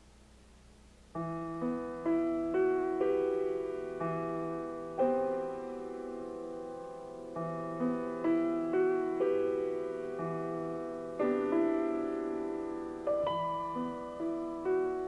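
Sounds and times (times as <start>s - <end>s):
faint steady hum: 0.0s - 15.0s
slow piano keyboard music: 0.0s - 15.0s.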